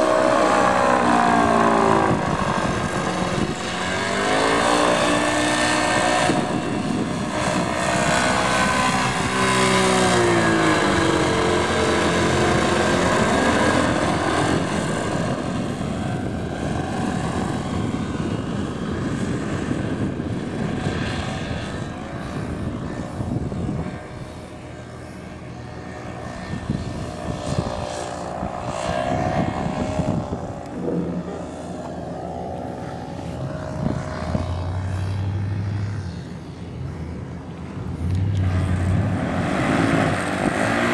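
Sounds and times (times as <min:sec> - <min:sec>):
paramotor engine droning: 0:00.0 - 0:40.9.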